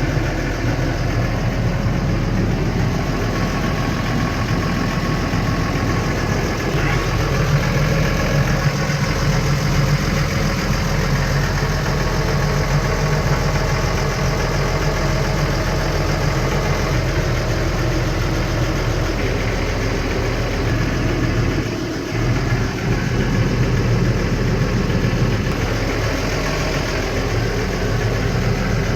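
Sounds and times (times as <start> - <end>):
tractor diesel engine idling: 0.0 - 28.9.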